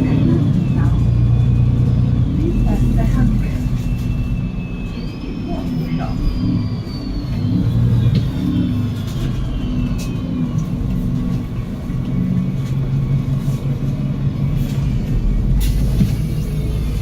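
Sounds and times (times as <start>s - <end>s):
bus engine drone: 0.0s - 17.0s
high drivetrain whine: 0.0s - 17.0s.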